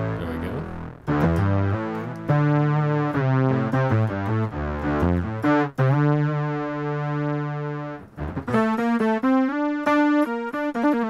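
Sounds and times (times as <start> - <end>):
synth bass guitar notes: 0.0 - 11.0.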